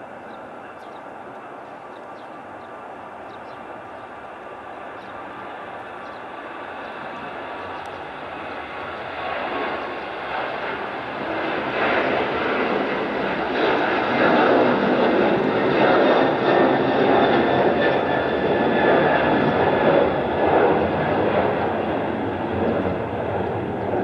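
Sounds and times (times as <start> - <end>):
jet engines roaring: 3.6 - 24.0.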